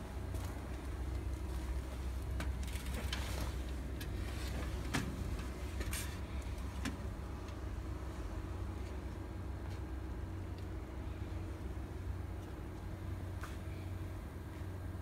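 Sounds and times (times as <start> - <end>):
low hum of workshop machinery: 0.0 - 15.0.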